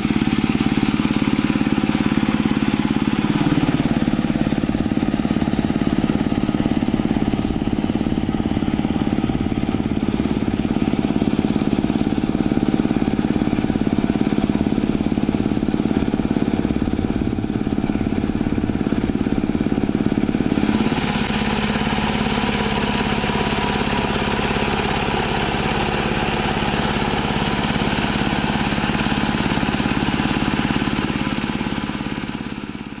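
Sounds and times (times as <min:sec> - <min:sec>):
diesel tractor engine running: 0:00.0 - 0:33.0.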